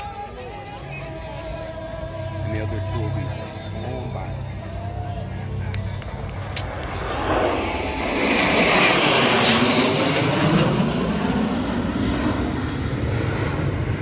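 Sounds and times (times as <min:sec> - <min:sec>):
jet aircraft roar: 0:00.0 - 0:14.0.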